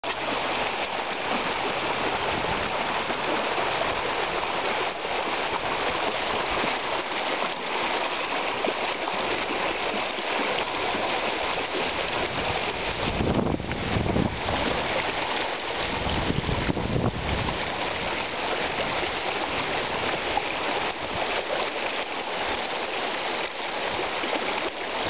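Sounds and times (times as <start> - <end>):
water rushing over stones: 0.0 - 25.0.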